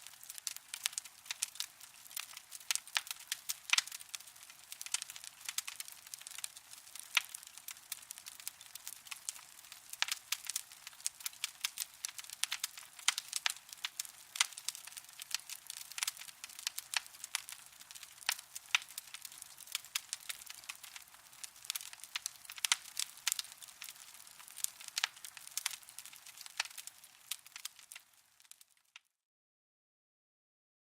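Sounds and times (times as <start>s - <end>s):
burning coals crackling: 0.0s - 29.0s.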